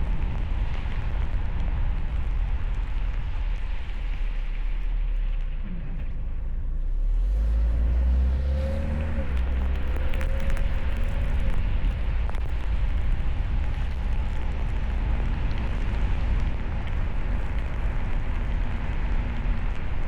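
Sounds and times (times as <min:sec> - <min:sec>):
road and wind rumble: 0:00.0 - 0:20.0
steady hum with rising pitch: 0:02.1 - 0:20.0.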